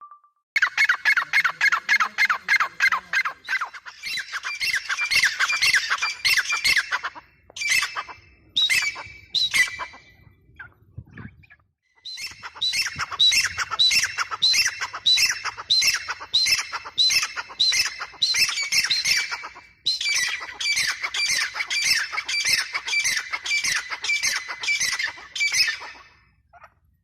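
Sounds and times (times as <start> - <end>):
francolin harsh repeated calls: 0.6 - 10.0, 12.1 - 26.2.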